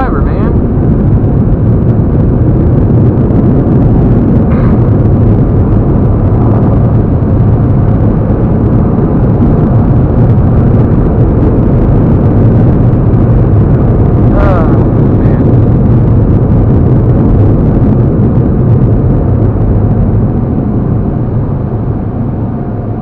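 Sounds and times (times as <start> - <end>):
vehicle road and engine noise: 0.0 - 23.0.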